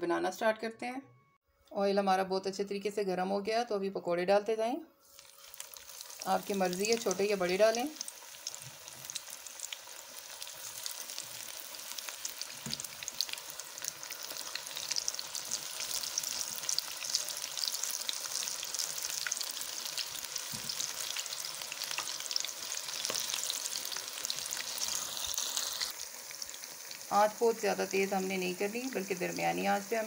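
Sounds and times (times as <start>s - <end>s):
batter sizzling in hot oil: 5.0s - 30.0s.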